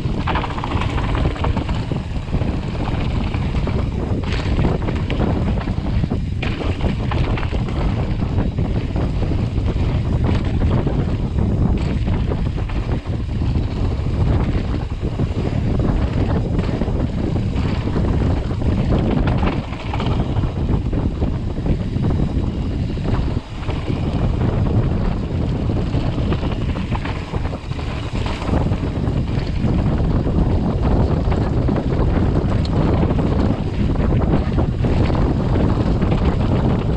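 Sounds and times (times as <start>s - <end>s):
bike rattling over bumps: 0.0s - 36.9s
tyres rumbling on dirt trail: 0.0s - 36.9s
wind buffeting microphone: 0.0s - 36.9s.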